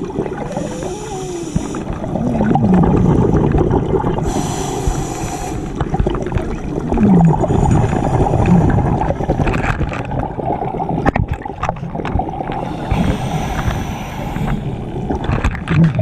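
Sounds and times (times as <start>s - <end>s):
underwater regulator bubbles gurgling: 0.0s - 16.0s.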